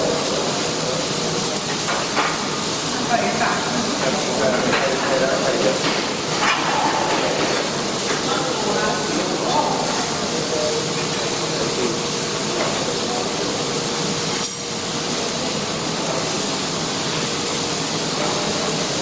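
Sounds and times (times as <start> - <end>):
arc welding hiss: 0.0 - 19.0.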